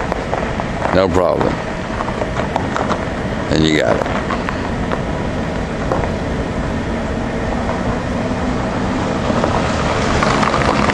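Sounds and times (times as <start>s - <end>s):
faint steady hum: 0.0s - 10.2s
vehicle running rumble: 0.0s - 10.9s.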